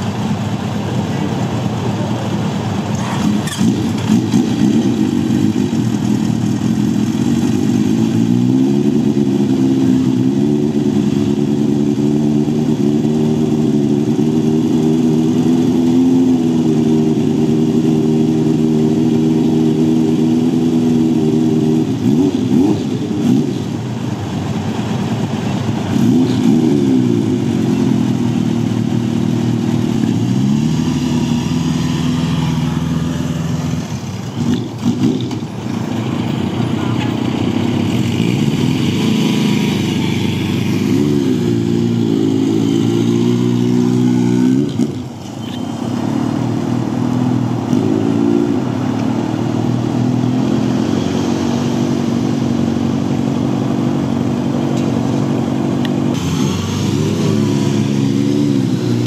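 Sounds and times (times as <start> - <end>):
motorcycle engines idling and revving: 0.0 - 59.0.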